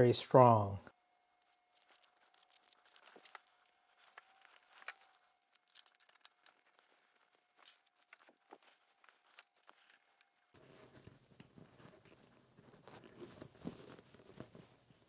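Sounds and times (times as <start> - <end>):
faint clicks and rustles of tape: 1.2 - 15.0.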